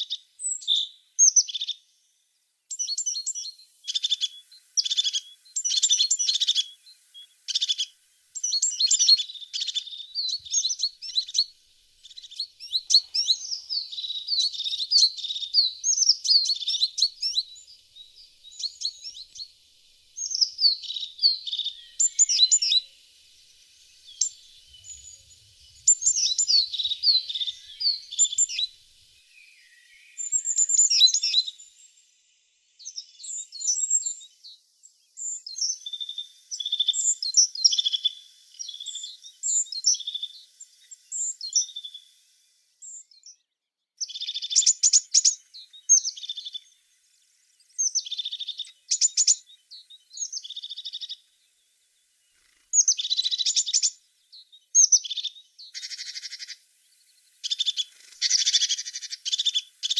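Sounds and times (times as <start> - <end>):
tits singing chirps and trills: 0.0 - 43.4, 44.0 - 59.9.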